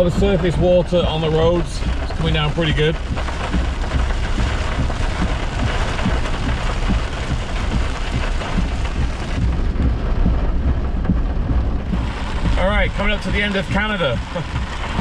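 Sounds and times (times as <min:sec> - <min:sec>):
car driving on wet road: 0:00.0 - 0:15.0
heavy rain on car roof: 0:00.0 - 0:15.0.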